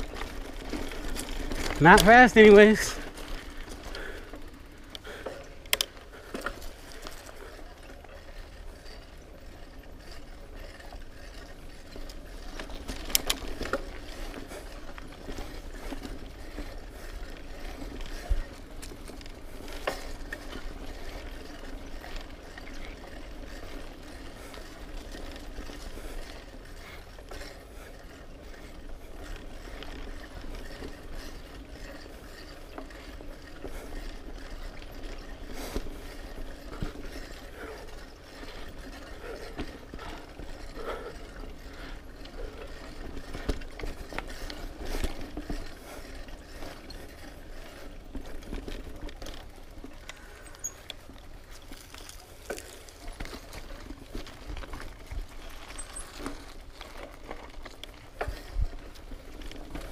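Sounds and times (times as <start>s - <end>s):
bicycle freehub ticking: 0.0s - 59.9s
bike rolling over dirt trail: 0.0s - 59.9s.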